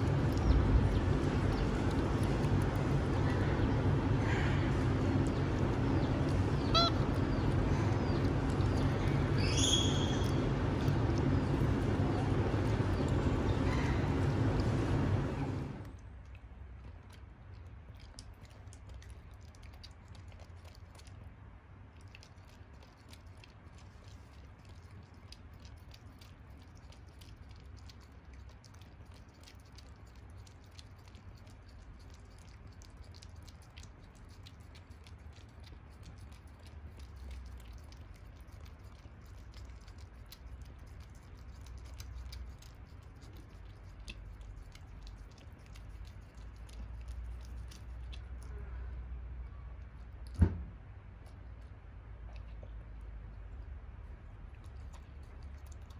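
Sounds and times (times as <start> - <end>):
animal chewing wet clicks: 0.0 - 48.6, 51.0 - 55.9
low steady hum: 0.0 - 55.9
low steady rumble: 0.0 - 55.9.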